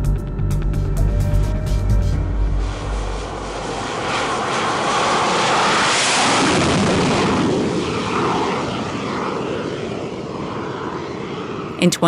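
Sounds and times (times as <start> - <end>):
jet engine roar: 1.1 - 12.0.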